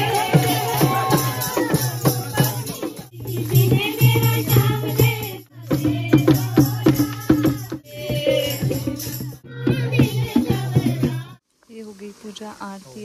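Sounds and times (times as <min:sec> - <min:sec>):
group devotional singing: 0:00.0 - 0:11.4
hand drum beat: 0:00.0 - 0:11.4
jingling hand percussion: 0:00.0 - 0:11.4.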